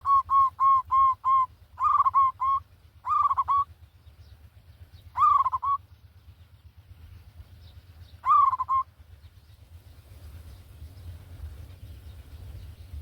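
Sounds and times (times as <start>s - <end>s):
bird calling: 0.0s - 6.1s, 7.1s - 13.0s
steady low hum: 0.0s - 13.0s.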